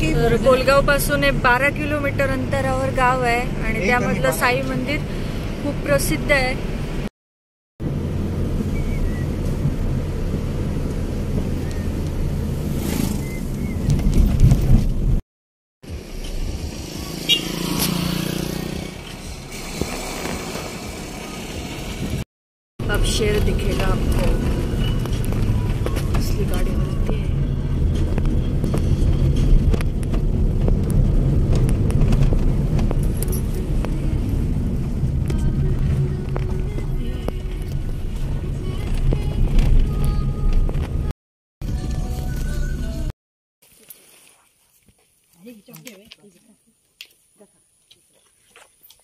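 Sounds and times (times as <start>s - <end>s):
car engine and tyres rumbling: 0.0s - 7.1s, 7.8s - 15.2s, 15.8s - 22.2s, 22.8s - 43.1s.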